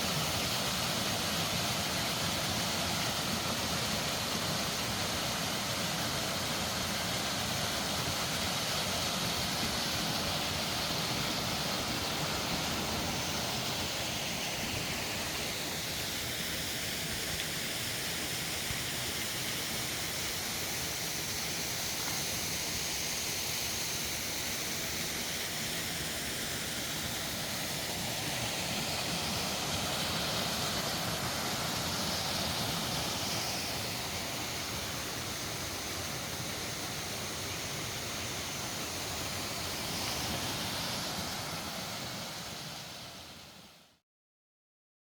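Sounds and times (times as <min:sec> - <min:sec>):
waterfall roaring: 0:00.0 - 0:43.5.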